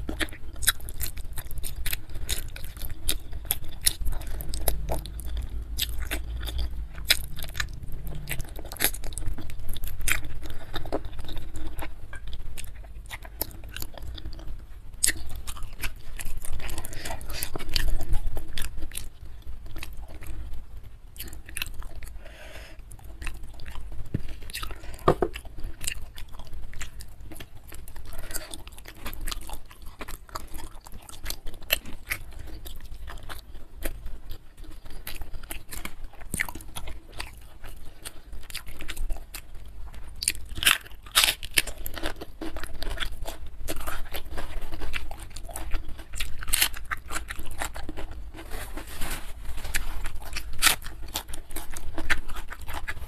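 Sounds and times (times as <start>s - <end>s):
person chewing and biting: 0.0s - 53.0s.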